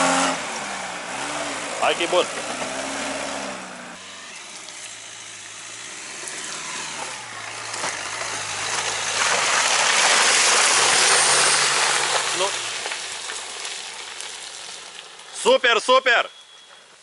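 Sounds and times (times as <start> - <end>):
car engine under load: 0.0 - 15.4.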